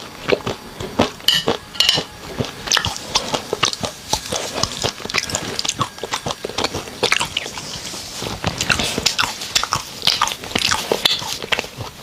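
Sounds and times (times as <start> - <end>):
chewing shrimp: 0.0 - 12.0.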